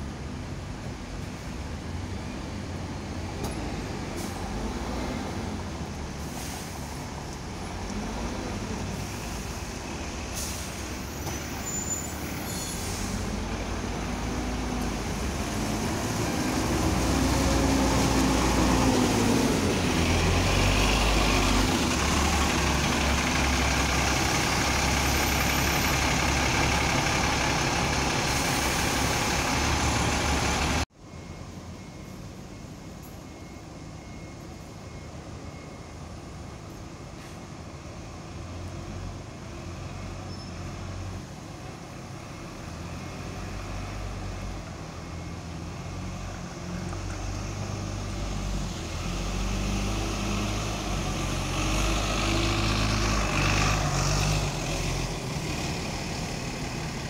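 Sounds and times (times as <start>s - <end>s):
bus diesel engine passing: 0.0s - 57.0s
street traffic noise: 0.0s - 57.0s.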